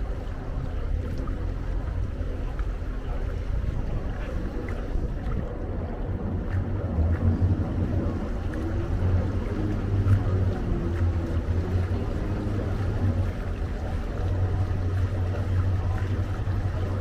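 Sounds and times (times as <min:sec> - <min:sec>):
boat engine droning: 0:00.0 - 0:17.0
water noise: 0:00.0 - 0:17.0
wind noise: 0:00.0 - 0:17.0.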